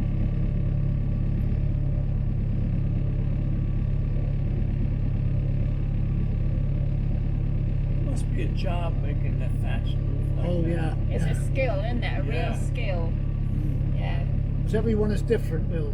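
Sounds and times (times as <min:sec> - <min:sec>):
boat engine drone: 0:00.0 - 0:15.9.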